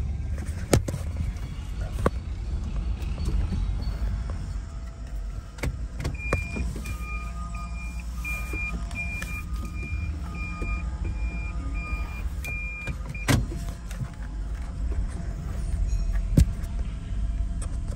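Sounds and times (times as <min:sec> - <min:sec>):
car road and engine rumble: 0:00.0 - 0:17.9.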